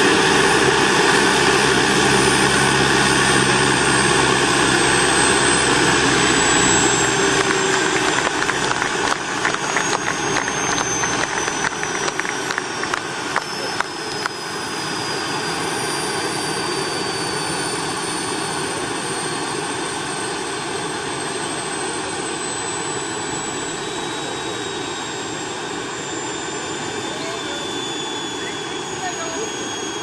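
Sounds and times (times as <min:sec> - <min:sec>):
model helicopter whining rush: 0:00.0 - 0:30.0.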